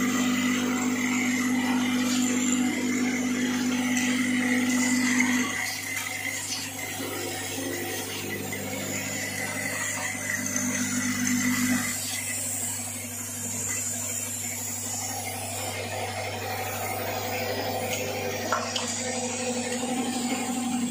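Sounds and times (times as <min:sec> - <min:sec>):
electromagnetic buzzing hum: 0:00.0 - 0:20.9.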